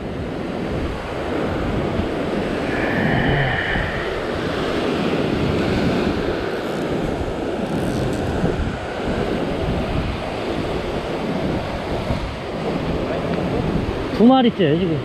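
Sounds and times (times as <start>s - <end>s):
ocean waves washing over rocks: 0.0s - 15.0s
wind buffeting microphone: 0.0s - 15.0s.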